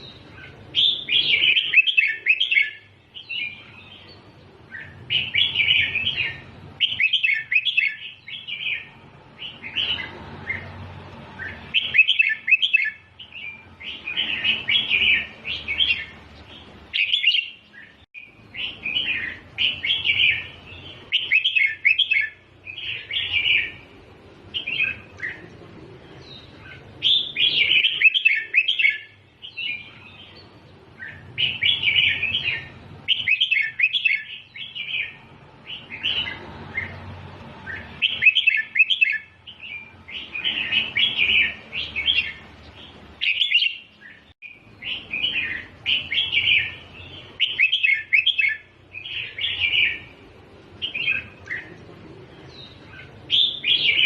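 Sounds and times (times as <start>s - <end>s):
bird singing warbled phrases: 0.0s - 54.0s.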